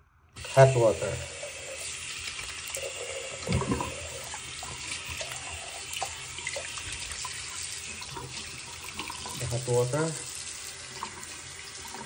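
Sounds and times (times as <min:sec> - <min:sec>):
faucet water running into basin: 0:00.4 - 0:12.0.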